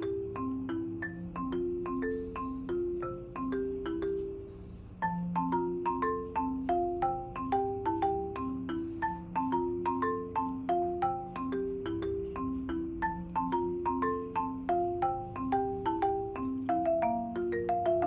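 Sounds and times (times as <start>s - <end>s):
light marimba tune: 0.0s - 18.0s.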